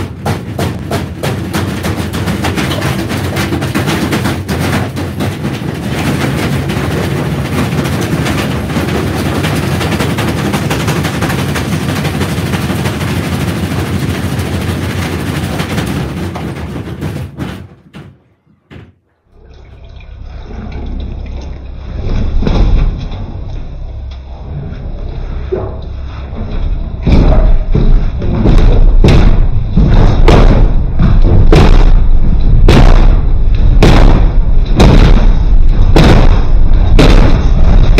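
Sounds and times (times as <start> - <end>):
washing machine rattling and banging: 0.0 - 19.1, 22.2 - 23.4, 26.4 - 37.9.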